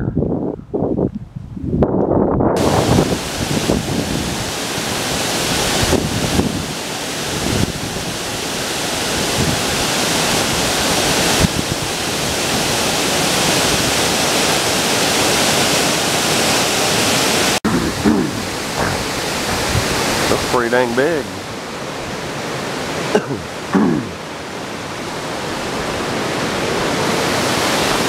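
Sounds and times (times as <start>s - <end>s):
wind gusts on microphone: 0.0s - 28.0s
water rushing over falls: 2.6s - 28.0s.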